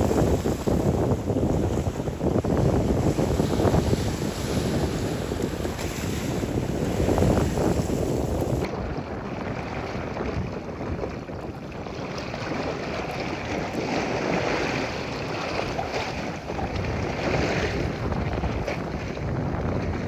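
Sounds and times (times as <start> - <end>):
sea waves: 0.0 - 20.0
wind buffeting microphone: 0.0 - 20.0.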